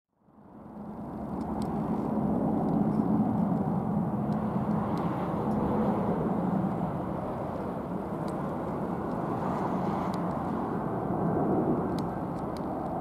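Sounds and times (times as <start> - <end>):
jet airliner engine noise: 0.3 - 13.0.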